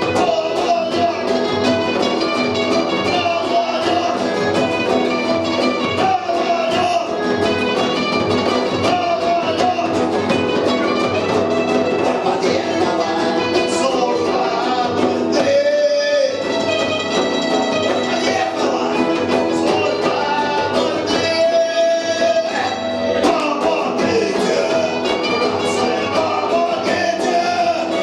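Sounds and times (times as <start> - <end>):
electric guitar: 0.0 - 28.0
punk band playing live: 0.0 - 28.0.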